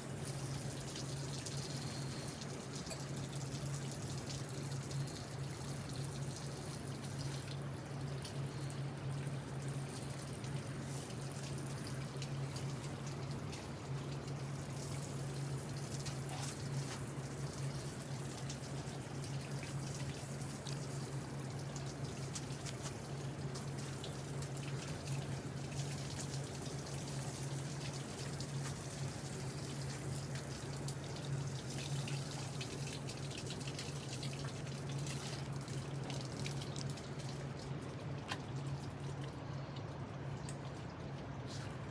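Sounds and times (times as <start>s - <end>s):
water running and splattering: 0.0s - 41.9s.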